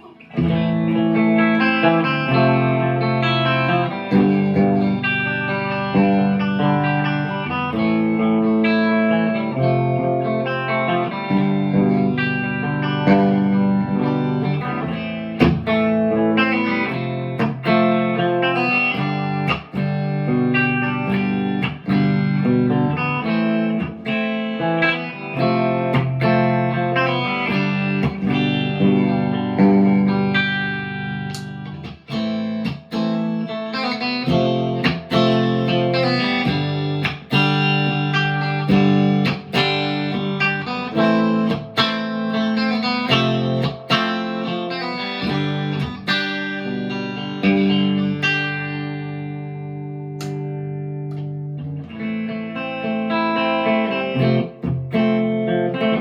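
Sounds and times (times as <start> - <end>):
electric guitar chords and notes: 0.0 - 56.0.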